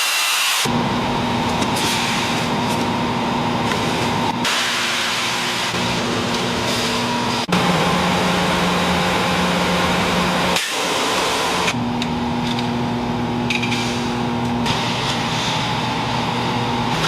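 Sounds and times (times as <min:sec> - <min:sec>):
machine hum: 0:00.6 - 0:17.0.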